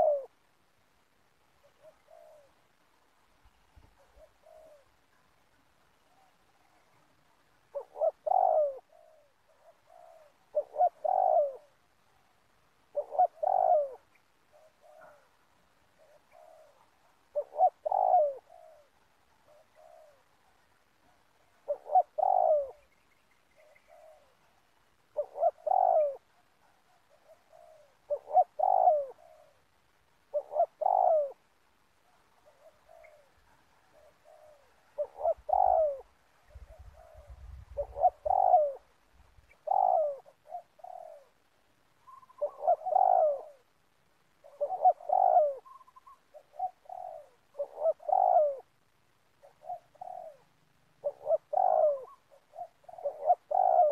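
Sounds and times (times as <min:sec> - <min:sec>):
dove cooing: 0:00.0 - 0:00.5, 0:01.6 - 0:02.8, 0:03.7 - 0:53.9.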